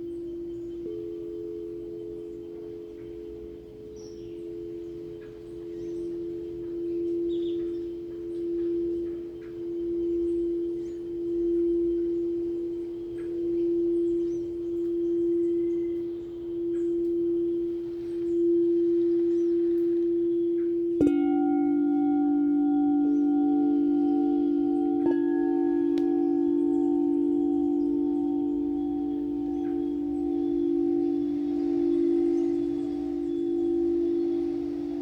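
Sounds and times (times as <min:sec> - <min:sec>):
lower singing bowl struck: 0:00.0 - 0:35.0
singing bowl ringing: 0:00.0 - 0:35.0.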